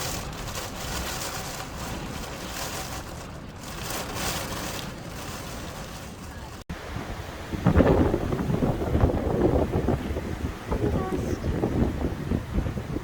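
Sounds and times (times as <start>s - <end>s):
gusting wind: 0.0s - 13.0s
rain: 0.0s - 13.0s.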